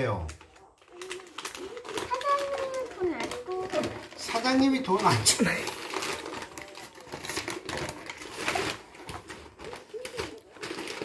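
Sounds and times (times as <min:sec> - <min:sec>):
hand rummaging among snack packets: 0:00.0 - 0:11.0.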